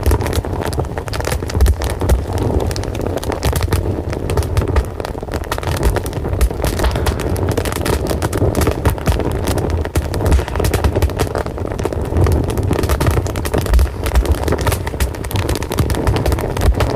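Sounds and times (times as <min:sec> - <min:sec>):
fire crackling: 0:00.0 - 0:16.9
low rumble of flames: 0:00.0 - 0:16.9.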